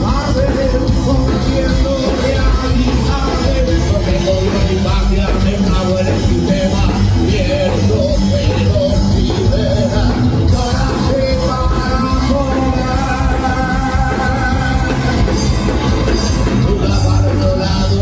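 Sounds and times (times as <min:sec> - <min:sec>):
punk rock band playing live: 0:00.0 - 0:18.0.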